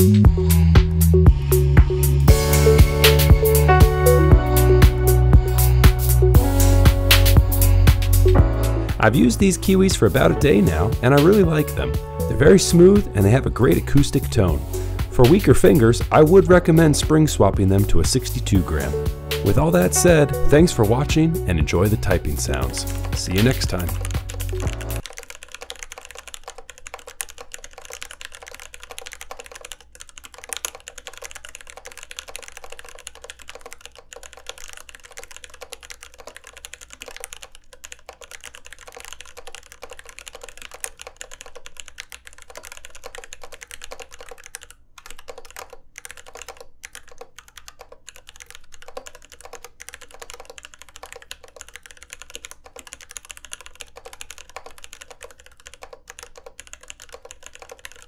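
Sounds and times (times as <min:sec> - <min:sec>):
mechanical keyboard typing: 0:09.0 - 0:14.6, 0:15.2 - 0:58.0.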